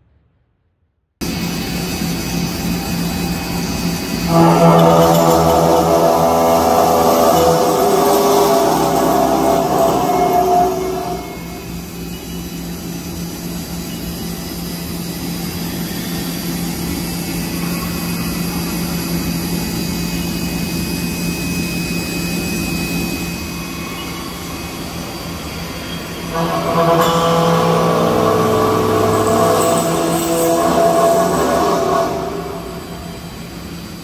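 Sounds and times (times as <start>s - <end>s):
thin high whine: 1.2s - 34.0s.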